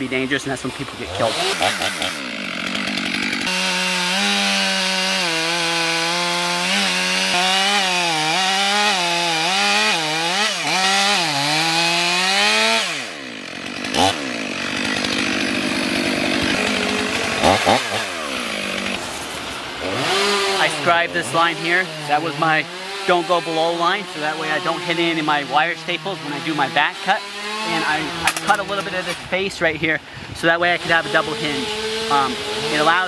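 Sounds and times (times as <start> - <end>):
chainsaw cutting wood: 0.0 - 29.8, 30.5 - 33.0.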